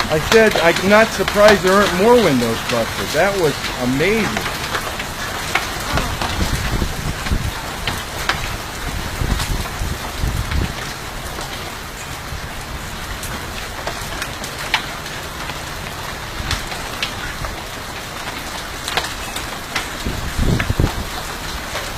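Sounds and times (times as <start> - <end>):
hail pattering: 0.0 - 21.9
hailstones cracking on hard surfaces: 0.0 - 21.9.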